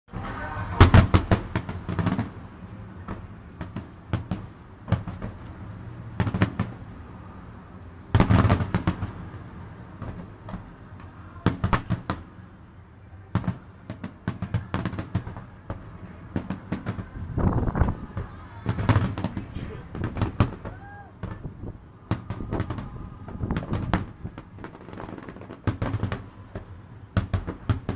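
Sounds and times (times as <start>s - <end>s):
fireworks bangs and crackling: 0.1s - 27.9s.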